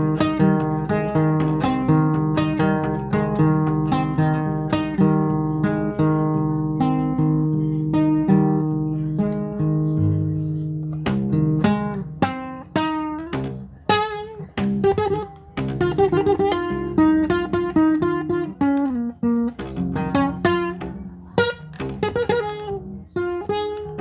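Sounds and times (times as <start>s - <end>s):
plucked guitar melody: 0.0s - 24.0s.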